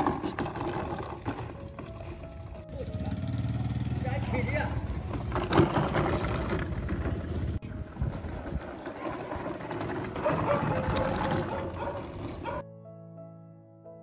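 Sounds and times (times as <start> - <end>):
wooden cart rattling over gravel: 0.0 - 3.3, 4.1 - 12.6.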